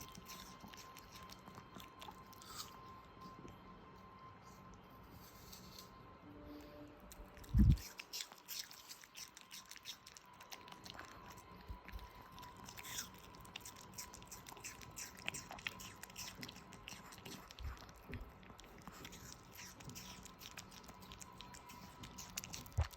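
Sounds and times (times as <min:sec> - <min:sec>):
pet crunching apple: 0:00.0 - 0:22.9.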